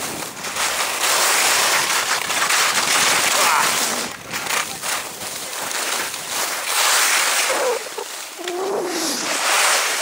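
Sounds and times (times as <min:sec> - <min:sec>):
skis scraping on hard snow: 0:00.0 - 0:10.0.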